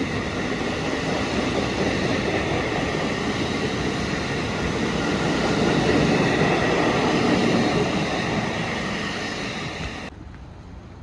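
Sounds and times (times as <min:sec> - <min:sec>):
train wheels rumbling on rail: 0:00.0 - 0:10.2
faint train whine: 0:00.0 - 0:11.0.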